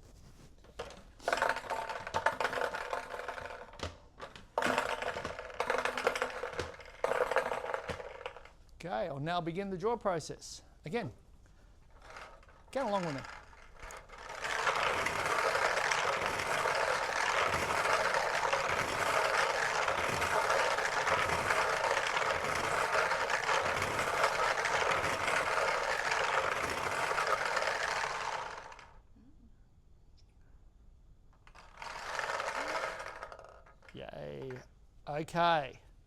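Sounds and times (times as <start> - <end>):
lottery balls tumbling and rattling: 0.3 - 8.7, 11.8 - 29.0, 31.4 - 34.7.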